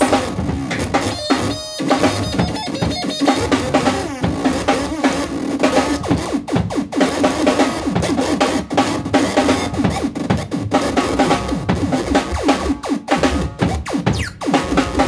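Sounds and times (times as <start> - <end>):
loud distorted noise music: 0.0 - 15.0.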